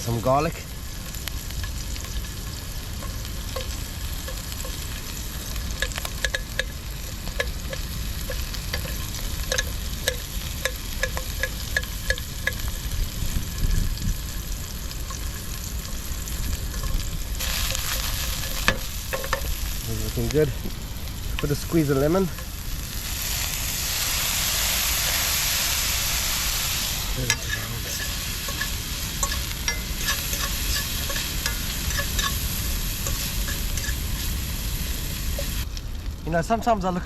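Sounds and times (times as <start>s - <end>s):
garlic and peppers sizzling in oil: 0.0s - 37.0s.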